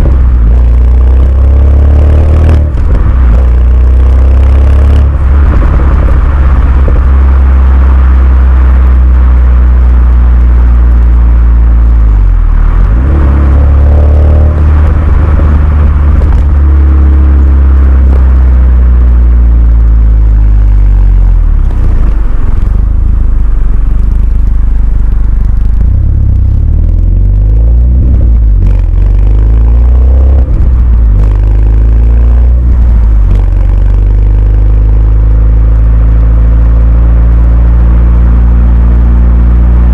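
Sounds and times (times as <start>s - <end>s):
car exhaust drone while driving: 0.0s - 39.9s.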